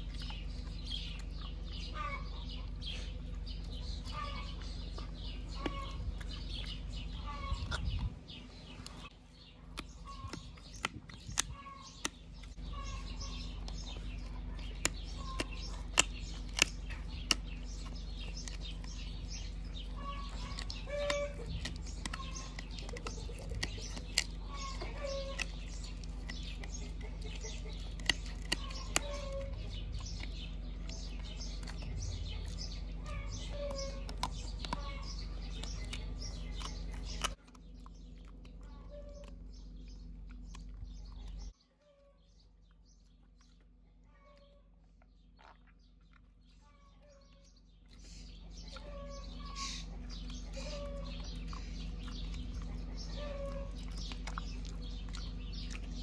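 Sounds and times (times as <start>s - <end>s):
dog chewing jerky: 0.0s - 41.5s, 44.8s - 56.0s
birds calling: 0.0s - 56.0s.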